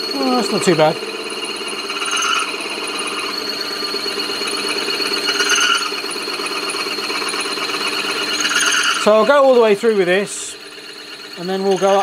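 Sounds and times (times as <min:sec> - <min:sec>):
lathe drilling metal: 0:00.0 - 0:12.0.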